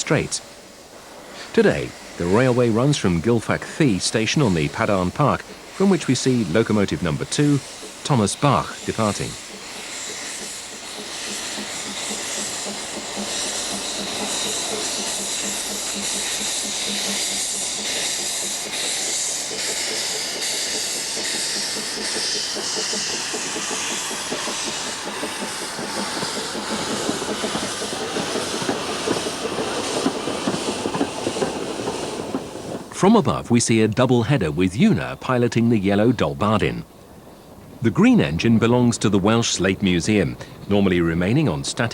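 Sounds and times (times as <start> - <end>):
steam hissing: 0.0 - 37.1
steam locomotive exhaust beat: 0.0 - 41.9.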